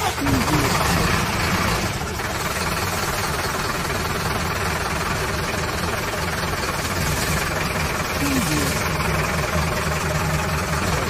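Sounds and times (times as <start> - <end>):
cartoon engine idling: 0.0 - 11.0.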